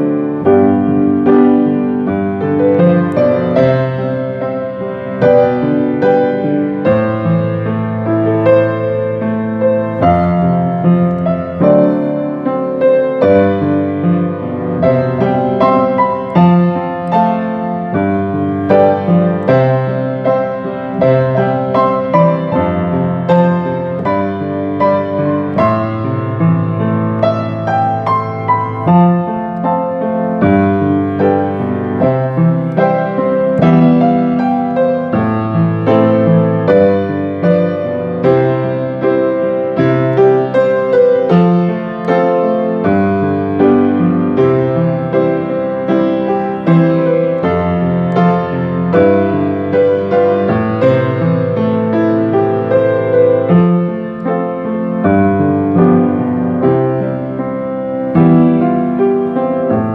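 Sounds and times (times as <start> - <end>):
gentle piano music: 0.0 - 59.9.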